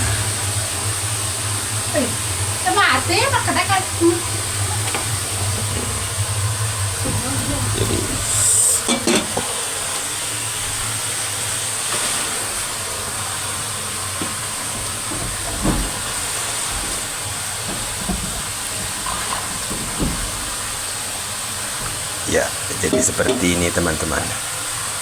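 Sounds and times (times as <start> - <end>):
stove burner hissing: 0.0 - 25.0.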